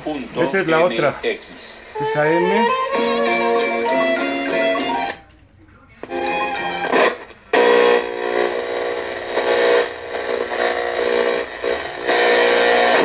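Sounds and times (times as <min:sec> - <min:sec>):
radio tuning through stations: 0:00.0 - 0:02.8, 0:04.4 - 0:13.0.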